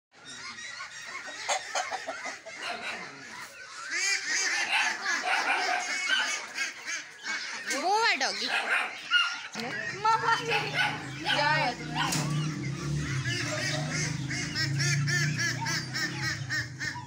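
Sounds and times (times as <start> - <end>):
ducks quacking: 0.2 - 17.0.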